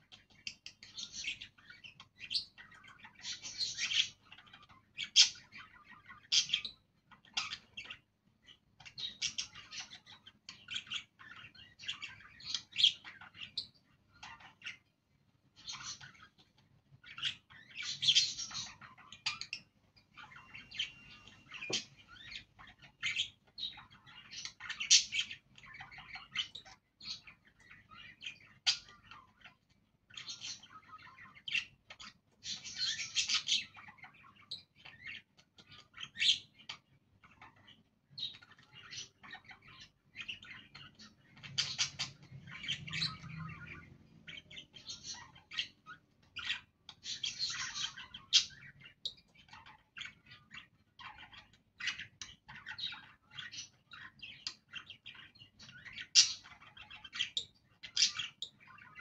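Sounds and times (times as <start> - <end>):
budgerigars chirping: 0.0 - 59.0.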